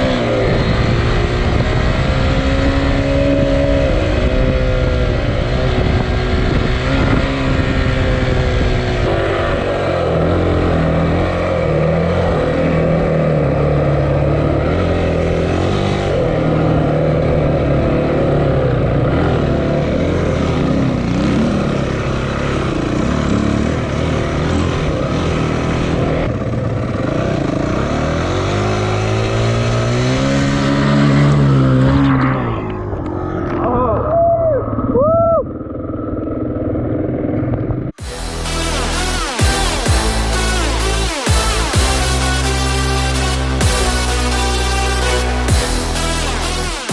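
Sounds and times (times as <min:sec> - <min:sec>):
dirt bike engine revving: 0:00.0 - 0:33.8, 0:35.6 - 0:46.9.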